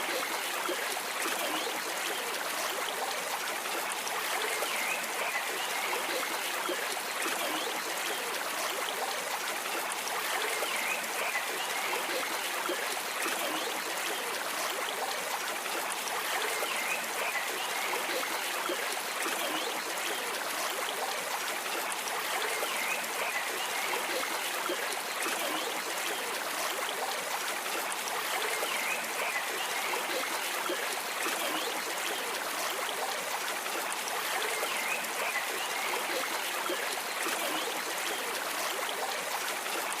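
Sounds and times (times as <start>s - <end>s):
stream water trickling: 0.0s - 40.0s.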